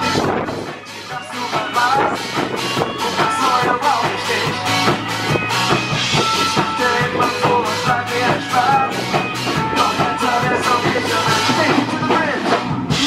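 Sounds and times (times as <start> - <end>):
band singing: 0.0 - 13.0
drum beat: 0.0 - 13.0
guitar: 0.0 - 13.0.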